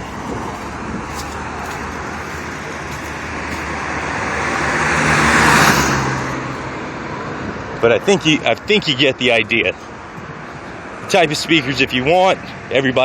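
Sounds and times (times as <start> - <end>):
passing vehicle: 0.0 - 13.0.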